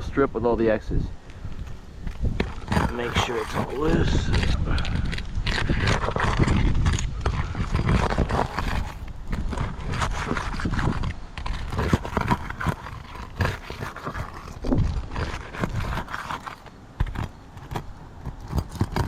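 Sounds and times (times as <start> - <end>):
roof shingle scraping and knocking: 1.4 - 19.0.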